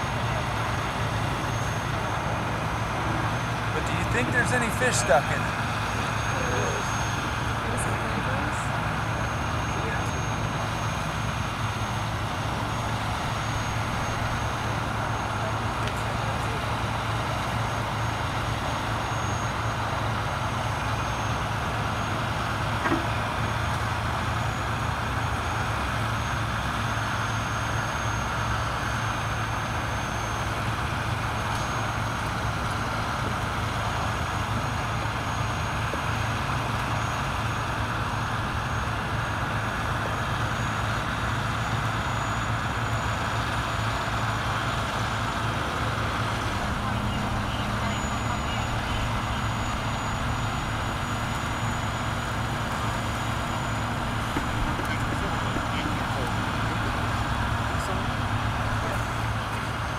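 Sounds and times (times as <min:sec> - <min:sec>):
diesel engine low hum: 0:00.0 - 0:59.9.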